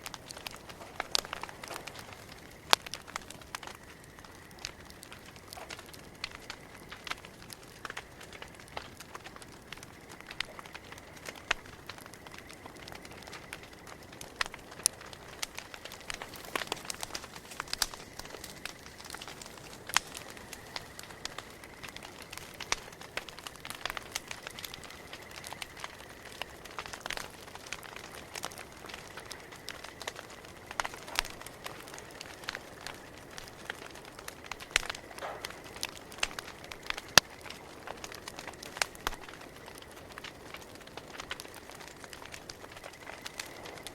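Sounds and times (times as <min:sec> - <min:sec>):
campfire crackling and popping: 0:00.0 - 0:43.9
faint steady hiss: 0:00.0 - 0:43.9.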